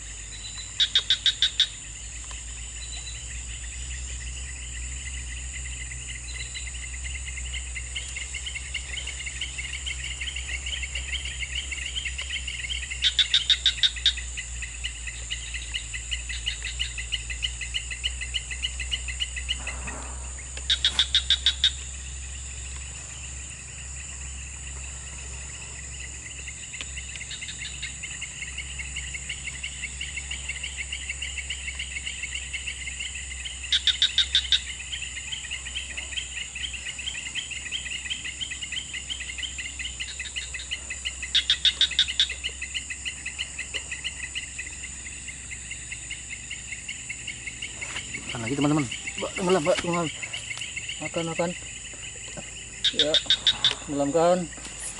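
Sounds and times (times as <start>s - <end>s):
insects buzzing and chirping: 0.0s - 54.9s
loud pulsing insect call: 0.0s - 54.9s.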